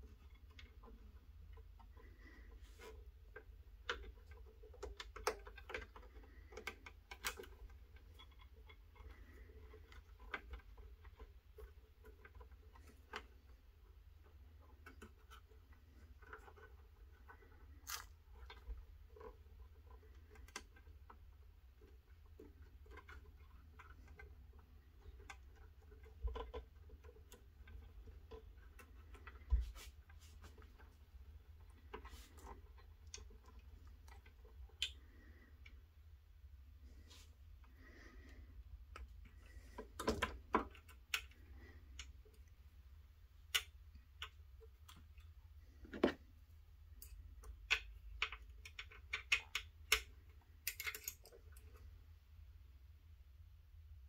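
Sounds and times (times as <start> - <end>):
light clicks and taps: 0.0 - 52.0.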